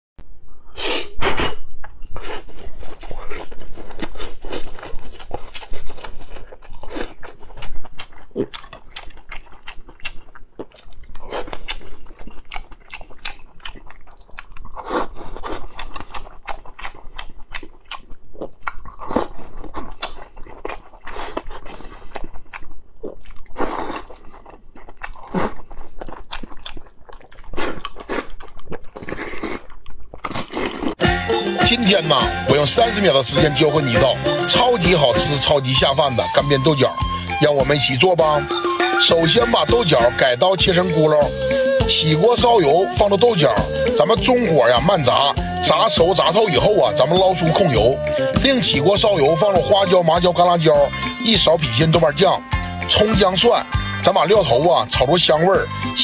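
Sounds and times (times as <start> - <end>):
man chewing food: 1.1 - 56.0.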